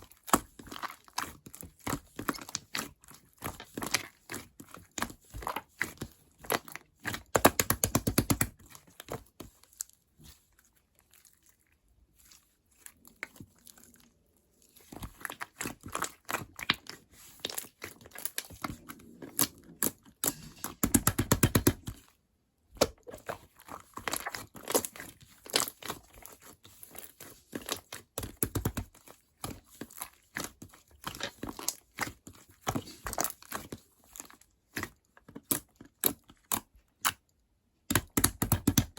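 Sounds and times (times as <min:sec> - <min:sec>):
slime squished by hand: 0:00.1 - 0:38.9.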